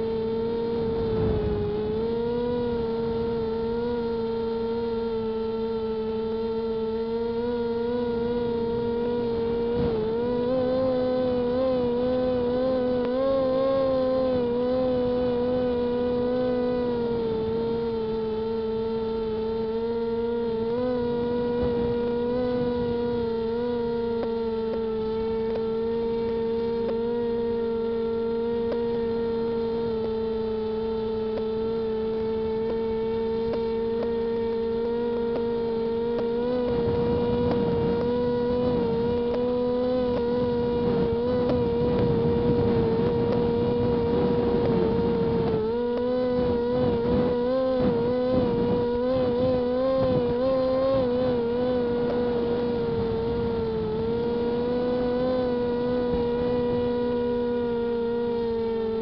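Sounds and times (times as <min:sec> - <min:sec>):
electric motors and propellers whining: 0:00.0 - 0:59.0.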